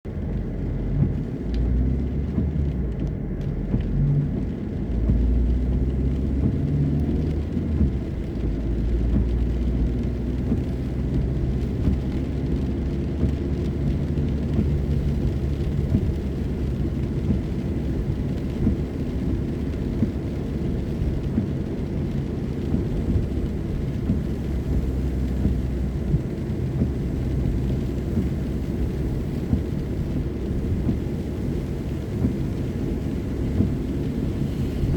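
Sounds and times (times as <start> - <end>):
car driving on wet road: 0.1 - 34.9
rain: 0.1 - 34.9.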